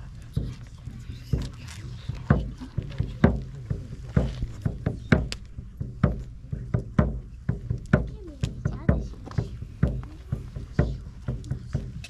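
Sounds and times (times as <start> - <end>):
heavy thuds: 0.0 - 12.0
low steady hum: 0.0 - 12.0.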